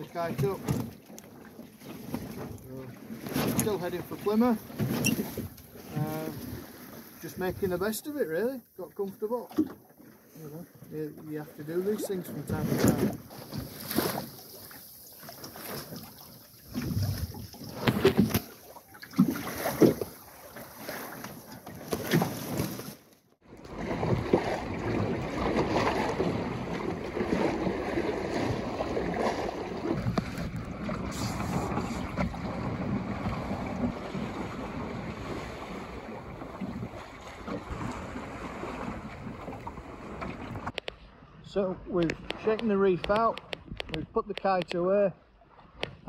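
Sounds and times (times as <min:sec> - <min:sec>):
sea water rushing along hull: 0:00.0 - 0:46.0
water slapping wooden hull: 0:00.0 - 0:46.0.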